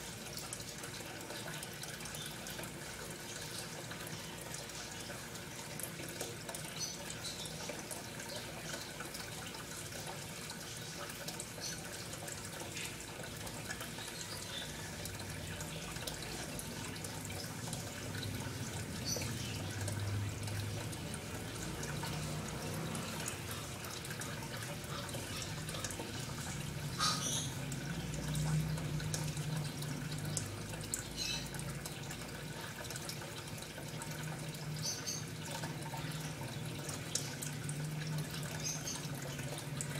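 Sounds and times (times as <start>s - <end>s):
running water: 0.0s - 39.9s
water drips and splashes: 0.0s - 39.9s.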